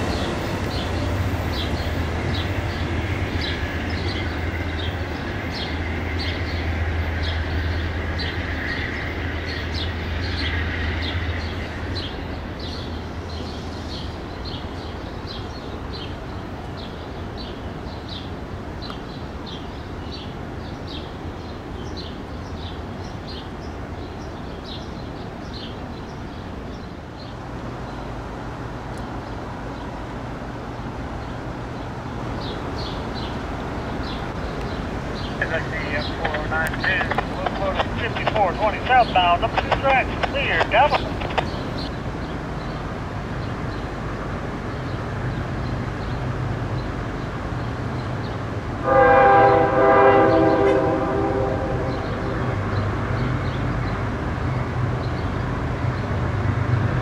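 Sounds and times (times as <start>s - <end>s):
train rumbling along tracks: 0.0s - 57.0s.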